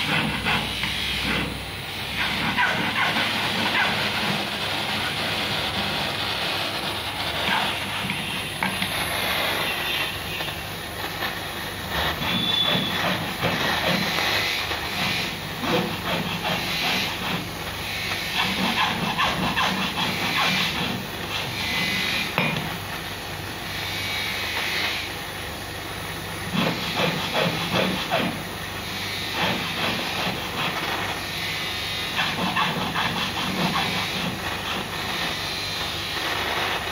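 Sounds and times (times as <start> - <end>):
gas torch flame hissing: 0.0 - 36.9.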